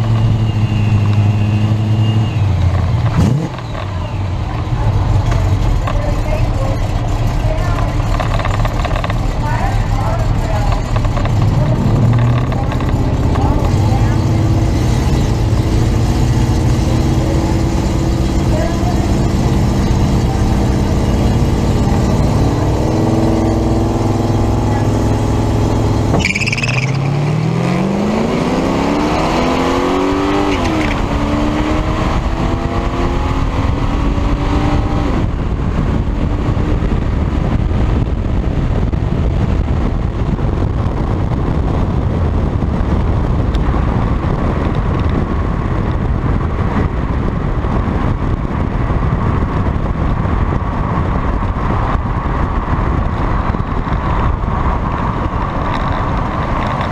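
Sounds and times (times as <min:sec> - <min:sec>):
car engine revving and accelerating: 0:00.0 - 0:46.8
wind and road noise: 0:00.0 - 0:56.9.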